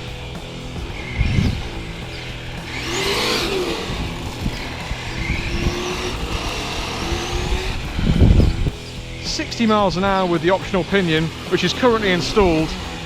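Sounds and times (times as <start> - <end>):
rc truck motor whine: 0.0 - 9.2, 10.3 - 13.0.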